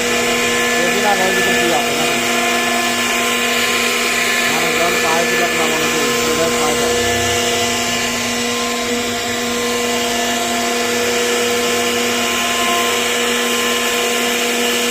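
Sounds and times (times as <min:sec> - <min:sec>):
cnc router spindle whine: 0:00.0 - 0:14.9.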